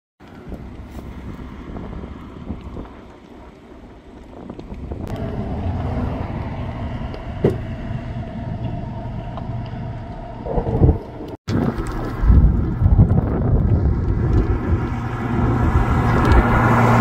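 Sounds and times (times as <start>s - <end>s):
vehicle engine running: 0.2s - 17.0s.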